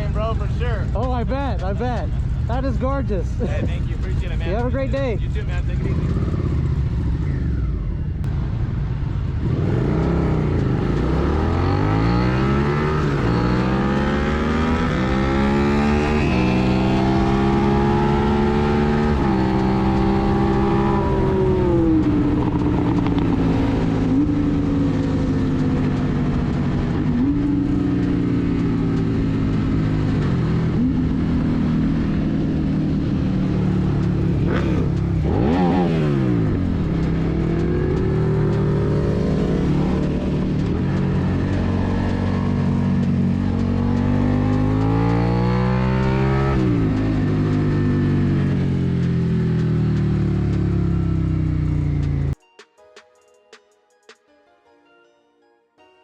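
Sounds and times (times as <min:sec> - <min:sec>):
motorcycle engine accelerating: 0:00.0 - 0:52.4.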